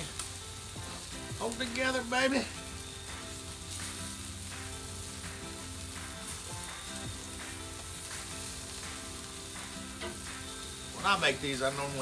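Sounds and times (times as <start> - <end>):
food sizzling on a grill: 0.0 - 12.0.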